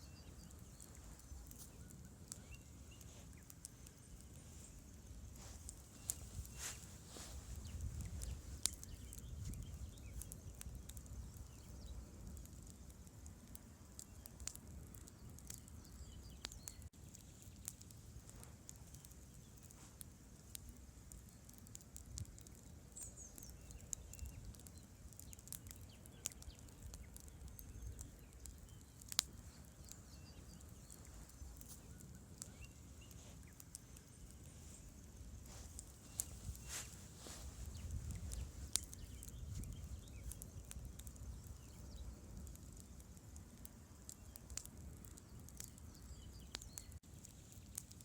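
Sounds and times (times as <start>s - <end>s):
campfire crackling and popping: 0.0s - 48.0s.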